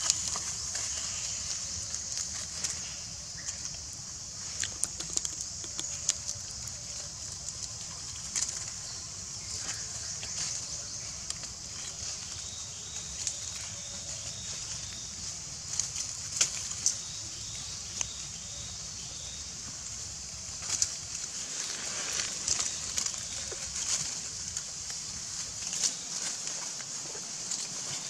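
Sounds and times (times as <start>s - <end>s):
dry leaves crackling: 0.0s - 28.0s
steady high-pitched hiss: 0.0s - 28.0s.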